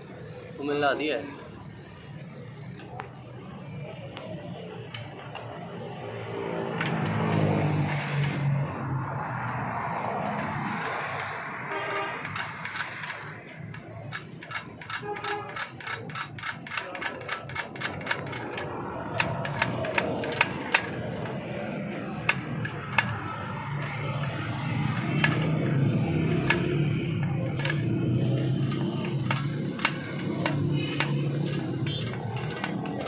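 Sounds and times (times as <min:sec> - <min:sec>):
metallic ratcheting clicks: 0:04.2 - 0:33.0.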